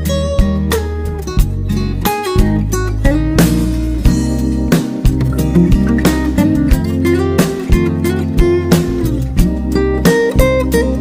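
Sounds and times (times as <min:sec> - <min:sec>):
guitar instrumental music: 0:00.0 - 0:11.0.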